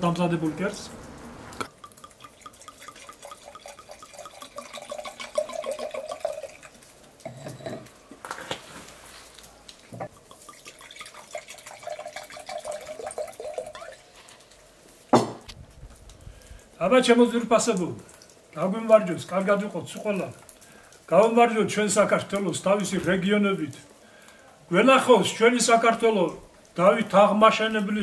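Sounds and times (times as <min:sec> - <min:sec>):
stew bubbling in a pot: 0:00.0 - 0:28.0.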